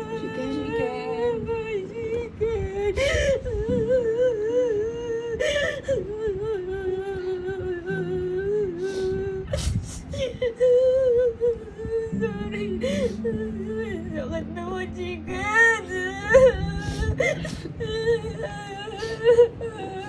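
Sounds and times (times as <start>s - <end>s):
slow mournful music: 0.0s - 20.0s.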